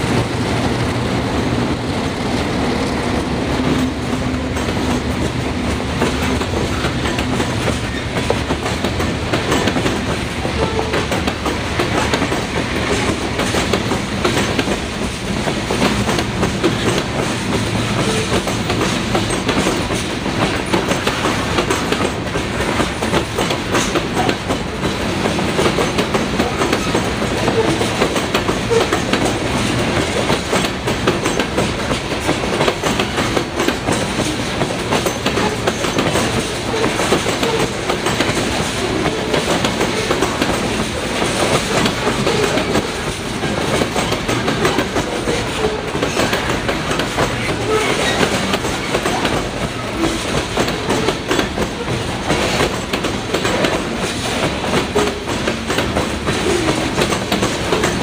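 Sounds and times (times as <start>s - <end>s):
train rumble: 0.0s - 58.0s
train wheels clattering over rail joints: 0.0s - 58.0s.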